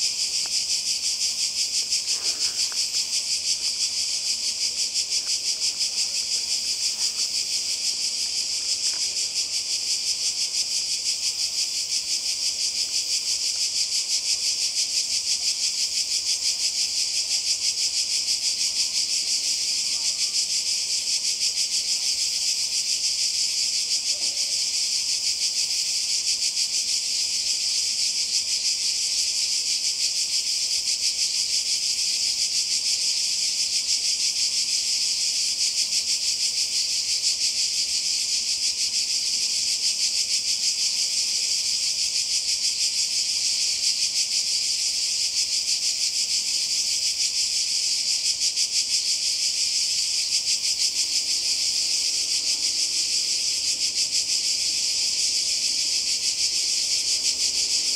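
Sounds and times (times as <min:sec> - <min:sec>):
cicadas buzzing: 0:00.0 - 0:57.9.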